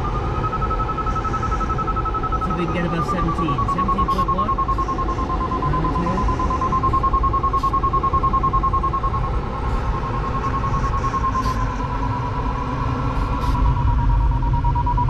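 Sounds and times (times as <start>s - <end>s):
variometer steady tone: 0.0s - 15.0s
air rushing around cockpit: 1.2s - 14.8s.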